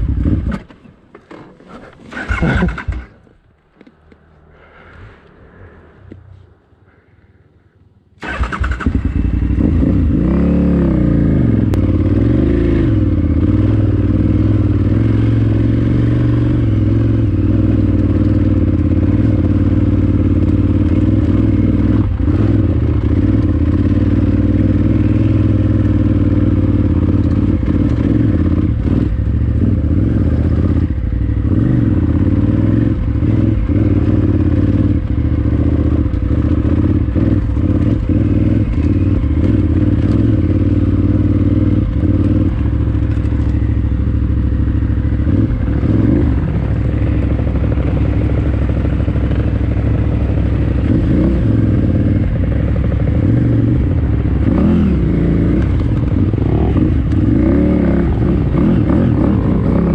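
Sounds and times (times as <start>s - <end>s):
motorcycle engine revving: 0.0s - 3.3s, 8.2s - 59.9s.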